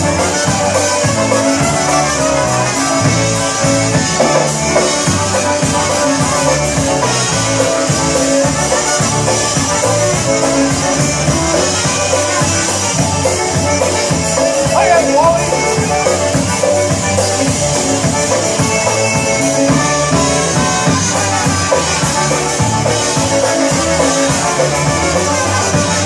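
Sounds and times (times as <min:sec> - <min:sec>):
accordions: 0:00.0 - 0:26.0
live band playing: 0:00.0 - 0:26.0
trumpets: 0:00.0 - 0:26.0.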